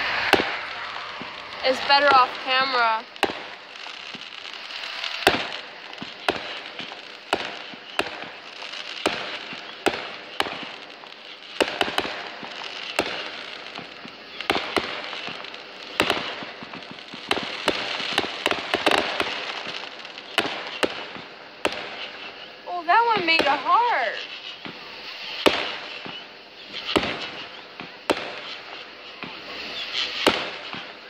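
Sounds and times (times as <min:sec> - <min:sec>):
fireworks bangs: 0:00.0 - 0:31.0
high hiss of fireworks: 0:00.0 - 0:31.0.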